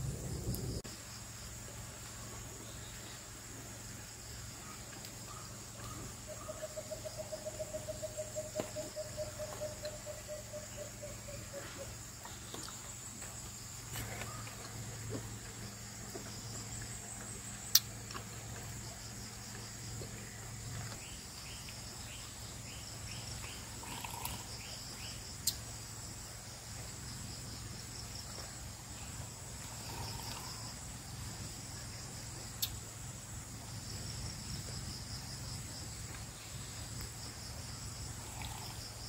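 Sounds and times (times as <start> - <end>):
high insect chorus: 0.0 - 39.0.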